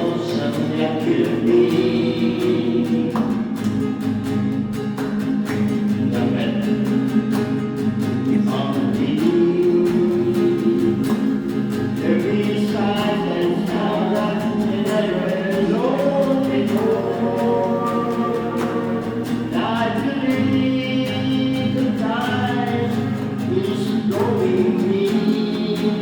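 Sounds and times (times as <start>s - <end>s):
choir holding wordless notes: 0.0s - 3.7s, 8.2s - 26.0s.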